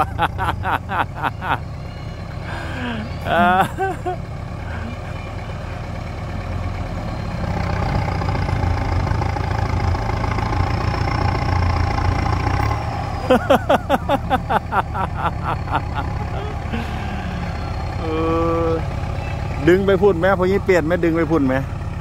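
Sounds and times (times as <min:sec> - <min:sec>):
tractor engine running under load: 0:00.0 - 0:22.0.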